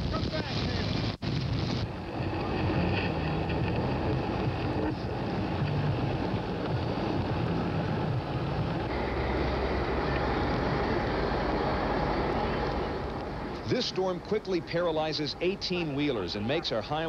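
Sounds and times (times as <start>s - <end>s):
blizzard wind: 0.0s - 17.0s
vehicle running noise: 1.3s - 17.0s
deep engine hum: 1.7s - 16.8s.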